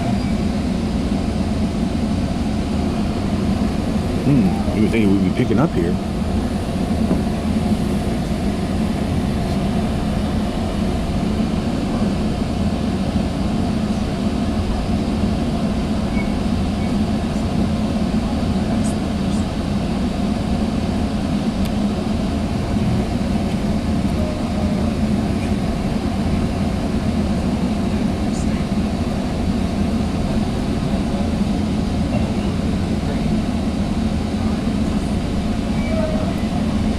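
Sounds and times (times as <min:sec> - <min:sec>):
train car rumble and hum: 0:00.0 - 0:36.9.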